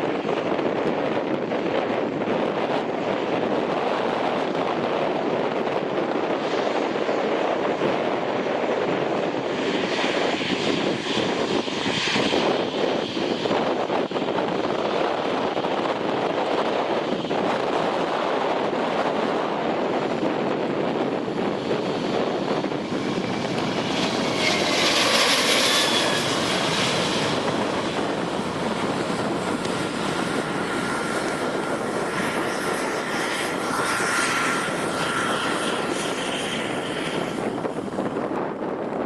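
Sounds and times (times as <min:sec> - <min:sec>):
airliner engines running: 0:00.0 - 0:39.0.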